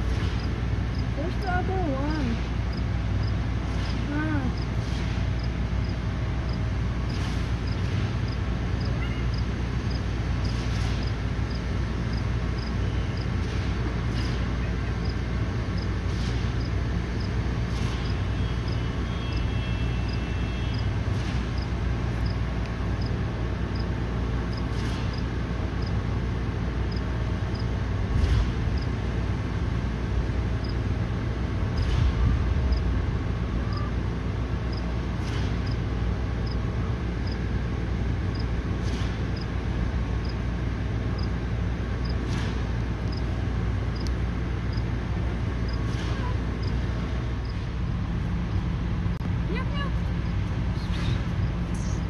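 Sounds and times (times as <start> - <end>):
low outdoor rumble: 0.0 - 52.0.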